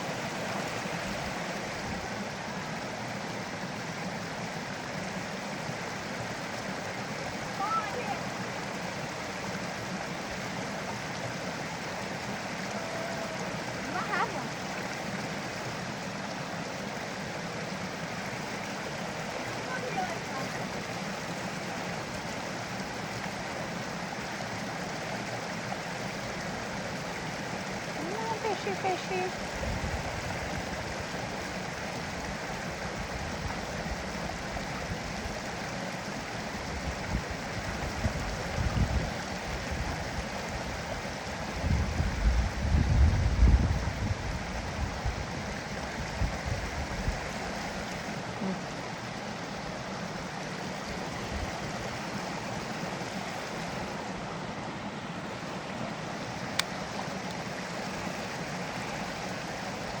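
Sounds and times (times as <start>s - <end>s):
creek water flowing: 0.0s - 60.0s.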